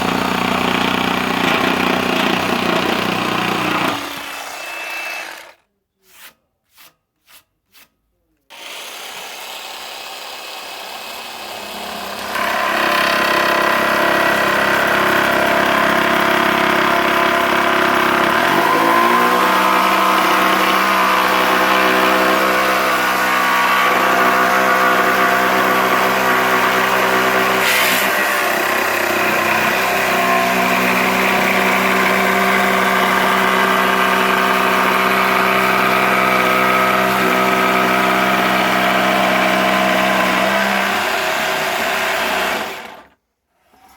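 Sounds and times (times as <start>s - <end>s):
jigsaw motor running: 0.0s - 5.6s, 8.5s - 43.2s.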